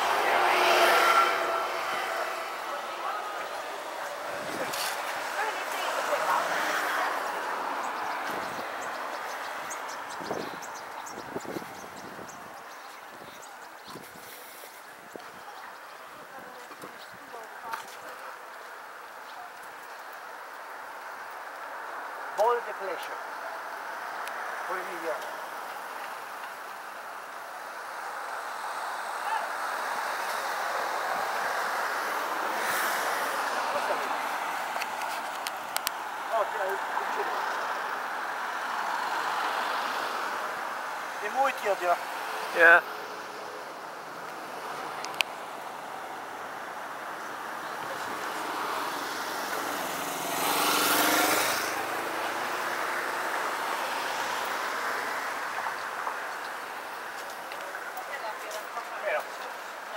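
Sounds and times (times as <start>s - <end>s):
passing cars hiss: 0.0s - 13.0s, 21.7s - 57.6s
street traffic hum: 0.0s - 59.9s.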